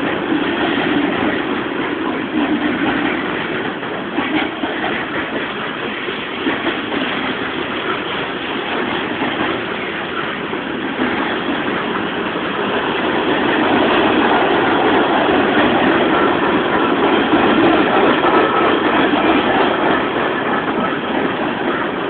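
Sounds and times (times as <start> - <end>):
freight train wheels rattling: 0.0 - 22.0.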